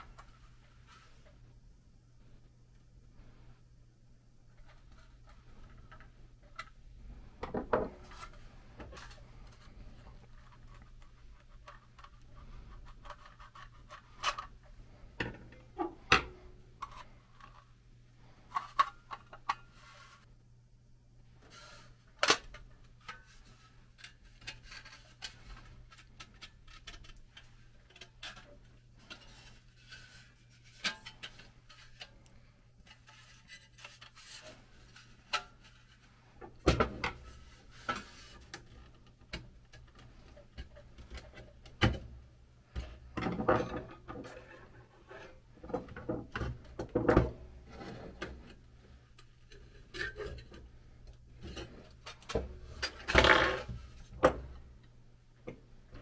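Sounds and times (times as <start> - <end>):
sheet metal toy being handled: 4.5 - 20.3, 21.4 - 56.0.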